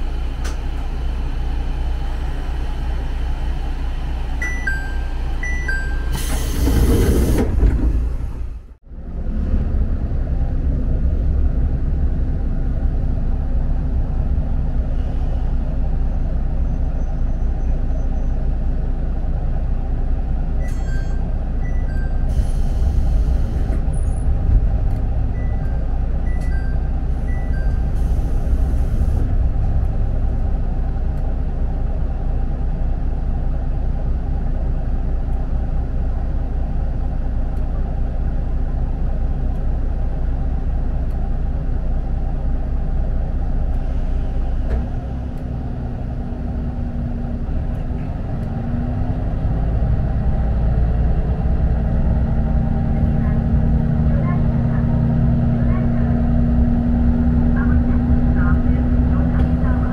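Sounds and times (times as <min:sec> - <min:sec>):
railcar engine and wheels rumbling: 0:00.0 - 0:59.9.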